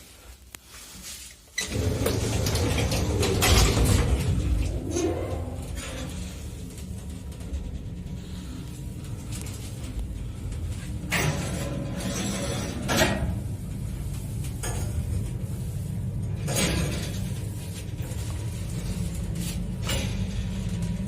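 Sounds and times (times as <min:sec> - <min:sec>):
lift motor humming: 0:01.6 - 0:21.0.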